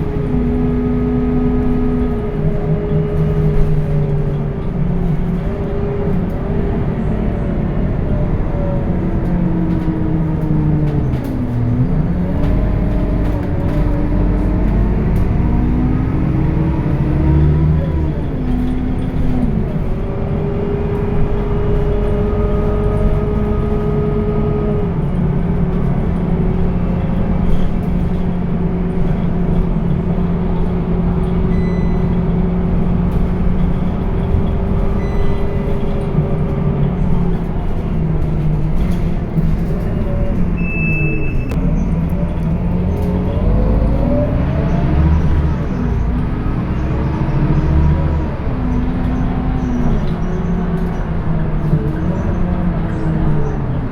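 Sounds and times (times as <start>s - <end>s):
bus engine under way: 0.0s - 53.9s.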